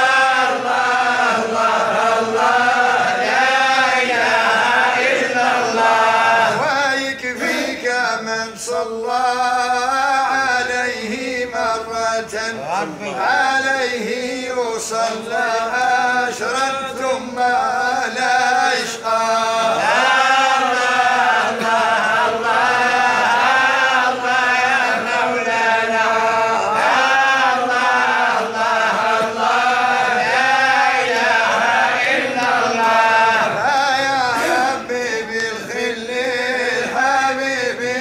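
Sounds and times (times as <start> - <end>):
men chanting: 0.0 - 38.0.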